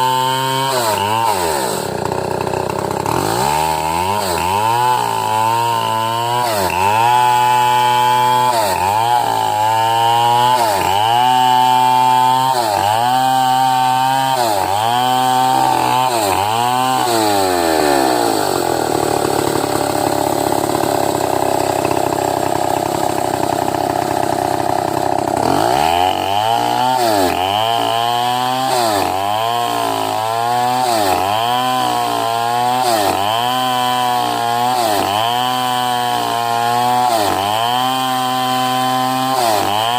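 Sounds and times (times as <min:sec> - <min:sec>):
chainsaw cutting through a log: 0:00.0 - 0:39.9.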